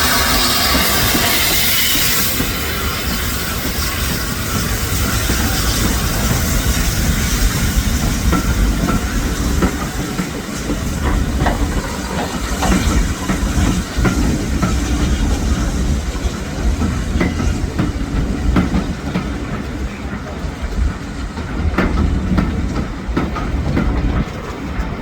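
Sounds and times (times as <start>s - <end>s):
steam hissing: 0.0s - 24.0s
steam train rumbling: 0.0s - 25.0s.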